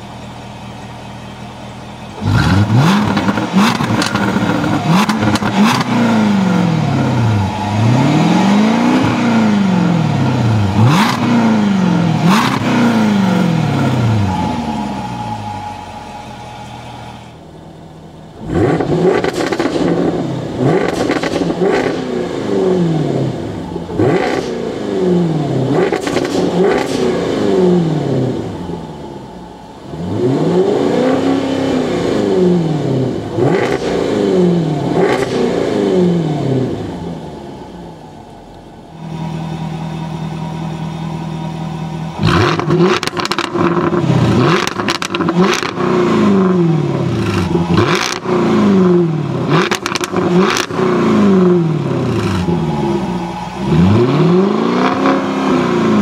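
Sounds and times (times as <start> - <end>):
car engine idling: 0.0 - 56.0
car engine revving: 1.6 - 56.0.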